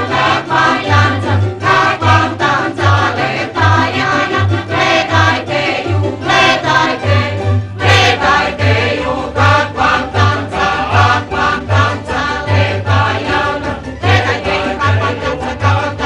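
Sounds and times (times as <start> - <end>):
mixed folk choir singing: 0.0 - 16.0
plucked string accompaniment: 0.0 - 16.0.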